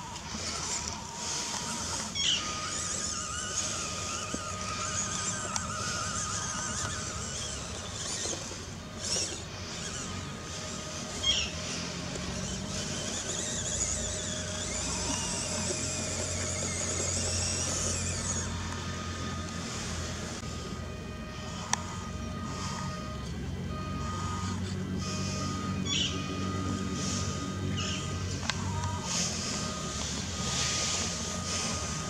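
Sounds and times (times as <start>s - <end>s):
small electric motor whining: 0.0s - 32.0s.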